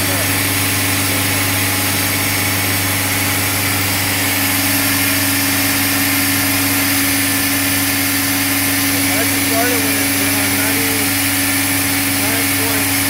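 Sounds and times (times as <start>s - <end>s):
engine and compressor droning: 0.0s - 13.0s.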